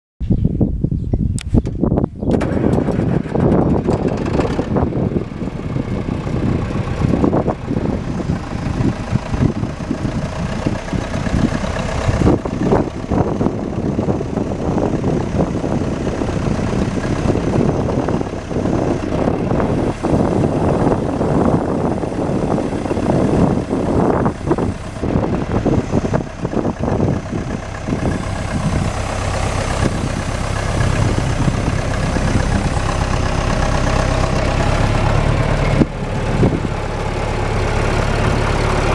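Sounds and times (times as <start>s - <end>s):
diesel engine running: 1.8s - 38.9s.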